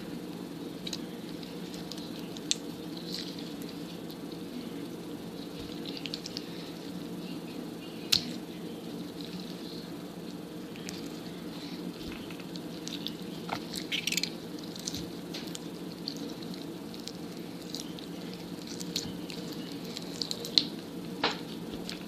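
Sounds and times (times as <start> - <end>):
steady low hum: 0.0 - 22.0
slime squelching: 0.8 - 22.0.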